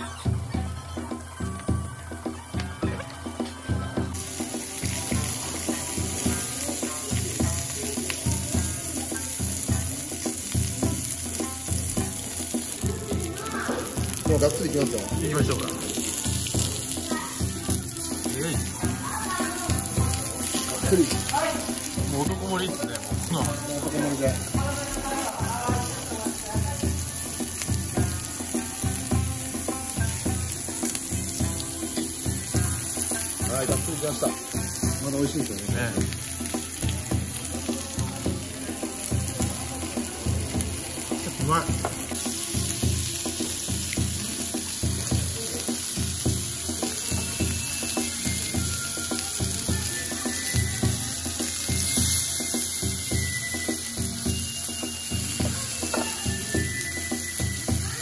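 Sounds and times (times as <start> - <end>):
background music with steady beat: 0.0 - 58.0
meat and vegetables sizzling: 0.0 - 58.0.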